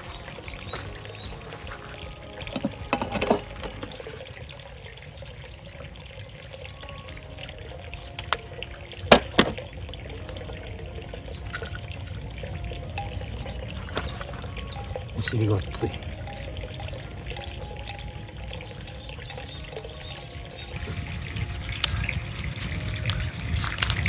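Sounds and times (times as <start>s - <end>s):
trickling water: 0.0s - 24.0s.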